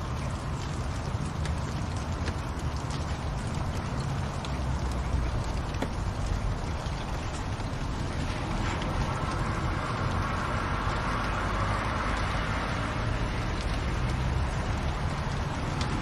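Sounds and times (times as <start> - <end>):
fire crackling and hissing: 0.0 - 16.0.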